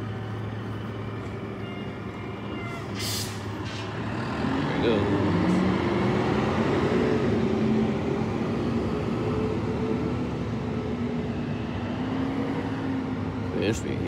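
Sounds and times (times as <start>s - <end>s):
truck diesel engine driving off: 0.0s - 13.4s.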